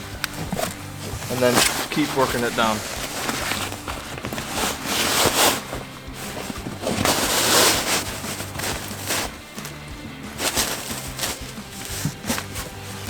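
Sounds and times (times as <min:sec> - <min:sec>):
fabric seat cover rustling: 0:00.0 - 0:13.0
faint background music: 0:00.0 - 0:13.0.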